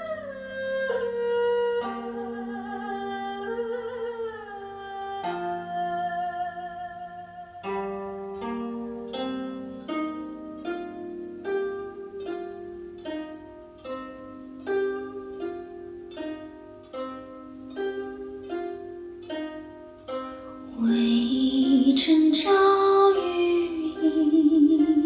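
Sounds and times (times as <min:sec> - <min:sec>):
plucked zither-like melody: 0:00.0 - 0:25.0.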